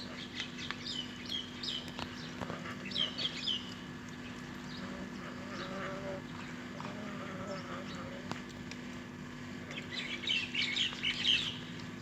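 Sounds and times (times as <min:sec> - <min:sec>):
small birds chirping: 0:00.0 - 0:08.2, 0:09.7 - 0:11.9
low steady hum: 0:00.0 - 0:12.0.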